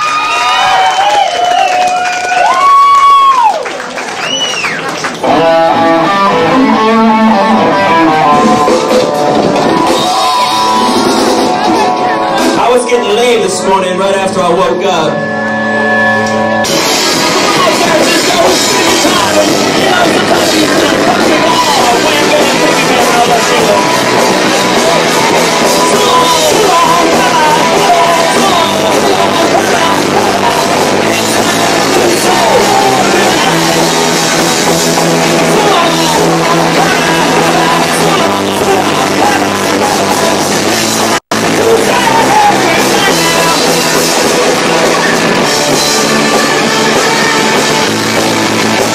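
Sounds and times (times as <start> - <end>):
distorted live rock band: 0.0 - 48.9
electric guitar: 0.0 - 48.9.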